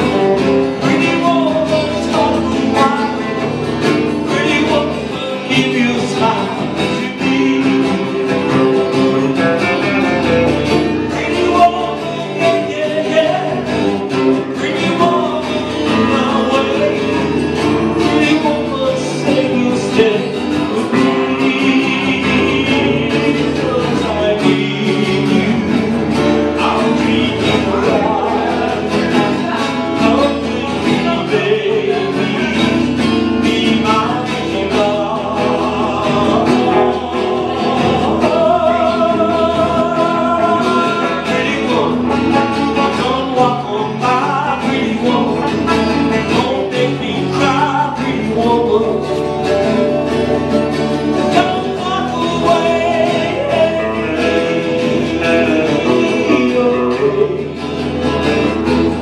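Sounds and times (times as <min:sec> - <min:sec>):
acoustic guitar: 0:00.0 - 0:59.0
electric guitar: 0:00.0 - 0:59.0
man singing into a microphone: 0:00.0 - 0:59.0.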